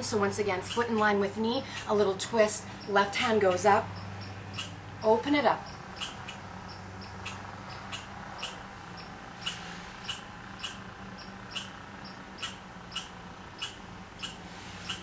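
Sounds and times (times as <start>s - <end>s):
small bird chirping: 2.7s - 15.0s.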